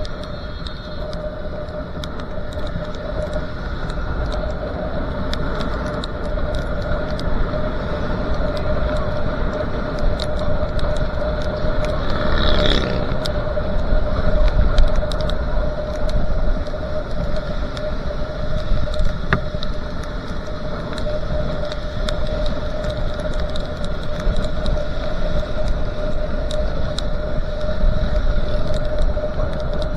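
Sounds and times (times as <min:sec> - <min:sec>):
motorcycle engine hum: 0:00.0 - 0:29.9
small ticks: 0:00.0 - 0:29.9
tyres on wet road: 0:00.0 - 0:29.9
wind noise: 0:00.0 - 0:29.9.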